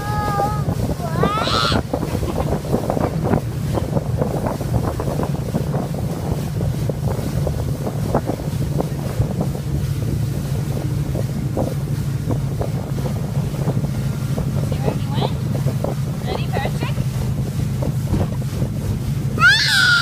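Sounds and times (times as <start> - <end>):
boat engine hum: 0.0 - 20.0
wind buffeting microphone: 0.0 - 20.0.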